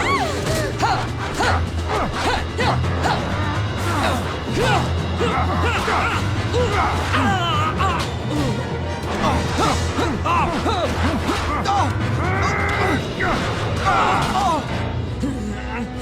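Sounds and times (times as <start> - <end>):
dramatic action music: 0.0 - 16.0.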